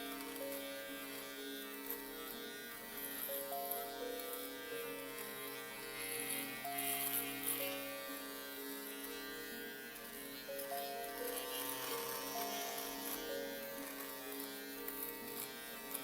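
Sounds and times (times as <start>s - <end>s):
buzzing drone: 0.0s - 16.0s.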